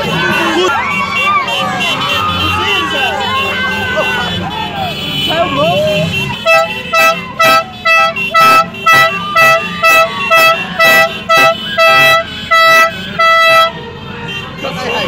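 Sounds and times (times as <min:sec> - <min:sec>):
vehicle horn honking: 0:00.0 - 0:15.0.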